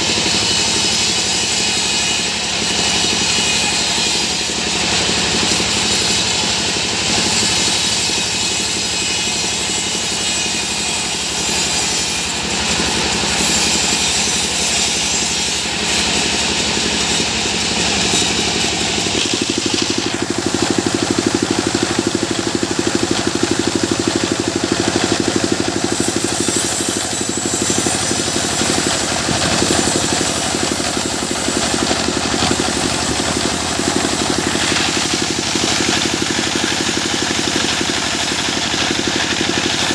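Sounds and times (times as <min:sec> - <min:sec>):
pulsing engine: 0:00.0 - 0:39.9
sawmill machinery running: 0:00.0 - 0:39.9.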